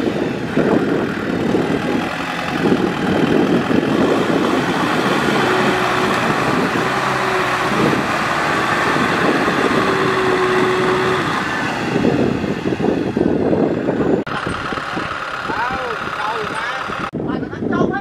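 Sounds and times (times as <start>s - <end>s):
tractor diesel engine under load: 0.0s - 17.9s.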